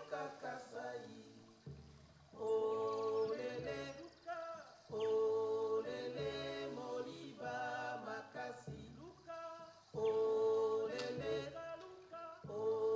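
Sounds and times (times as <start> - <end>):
person singing unaccompanied: 0.0 - 12.9.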